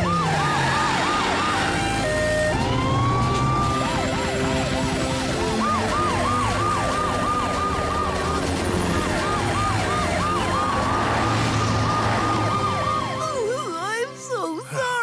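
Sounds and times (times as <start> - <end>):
siren fast yelp: 0.0 - 13.6
siren steady wail: 0.0 - 14.1.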